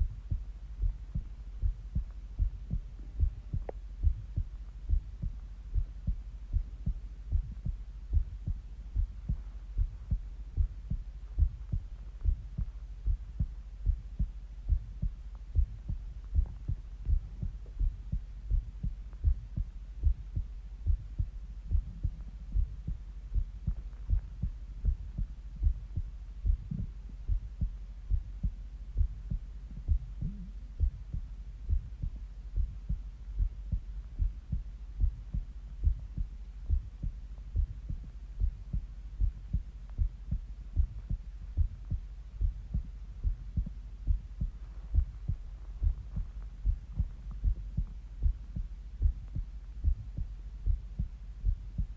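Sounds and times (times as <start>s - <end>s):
heartbeat thuds: 0.0s - 51.9s
low hum: 0.0s - 51.9s.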